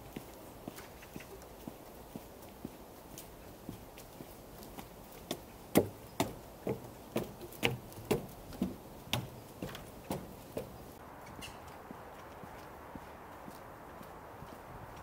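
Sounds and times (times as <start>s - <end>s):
crunching footsteps: 0.0s - 15.0s.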